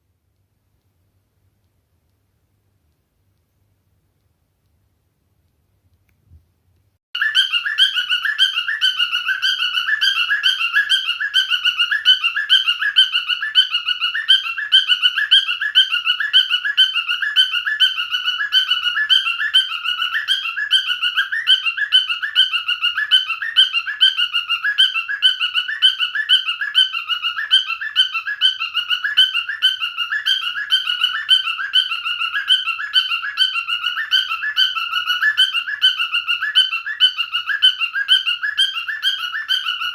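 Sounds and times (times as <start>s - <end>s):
cockatiel chirping and whistling: 7.2s - 39.9s.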